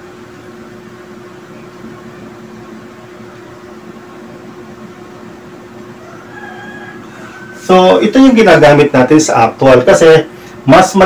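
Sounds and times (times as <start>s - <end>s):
appliance hum and hiss: 0.0s - 11.0s.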